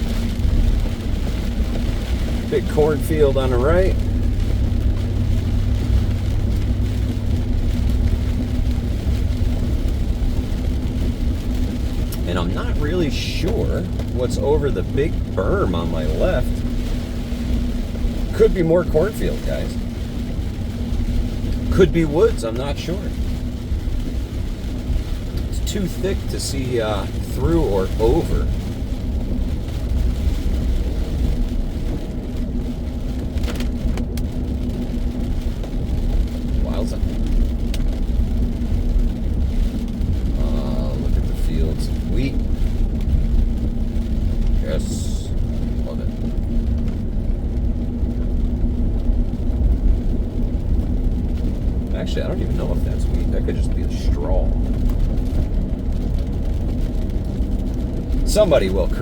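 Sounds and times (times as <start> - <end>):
car road and engine rumble: 0.0 - 59.0
rain hissing on car: 0.0 - 59.0.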